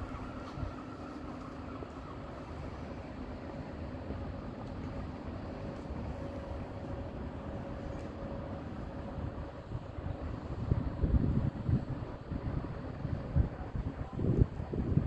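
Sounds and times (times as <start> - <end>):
distant city traffic rumble: 0.0 - 15.0
faint steady hum: 0.0 - 15.0.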